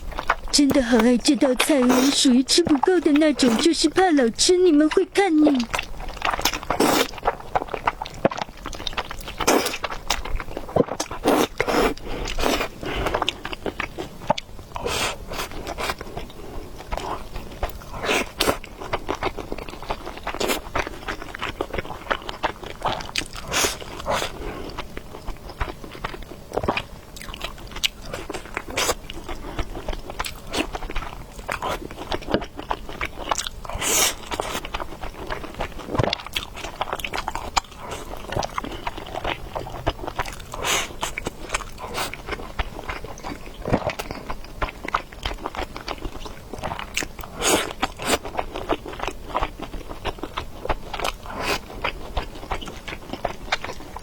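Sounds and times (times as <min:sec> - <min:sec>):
person biting and chewing food: 0:05.7 - 0:54.0.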